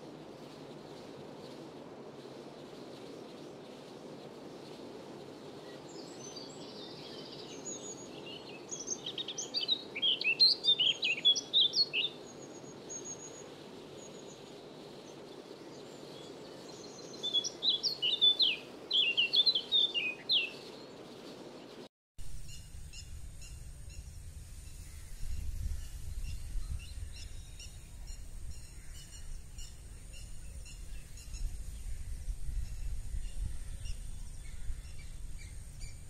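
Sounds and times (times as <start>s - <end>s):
low background noise: 0.0s - 36.0s
songbird singing: 0.0s - 36.0s.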